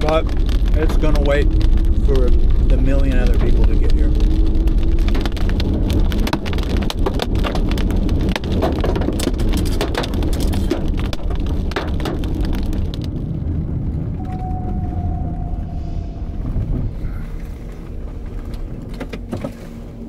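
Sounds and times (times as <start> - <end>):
raindrops pattering: 0.0 - 19.6
steady low rumble: 0.0 - 20.0.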